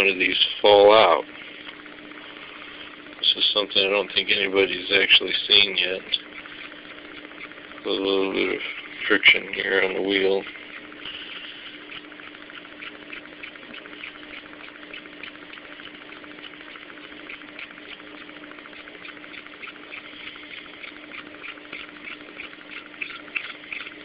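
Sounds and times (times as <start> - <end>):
fan motor whirring: 0.0 - 24.0
low hum: 0.0 - 24.0
rapid even ticking: 0.0 - 24.0.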